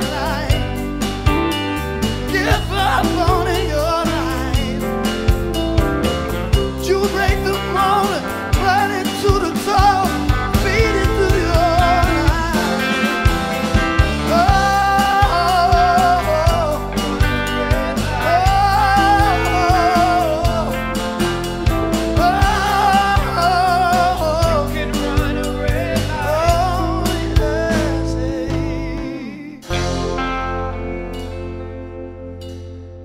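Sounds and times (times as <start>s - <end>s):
drum kit: 0.0s - 33.0s
electric guitars: 0.0s - 33.0s
keyboard: 0.0s - 33.0s.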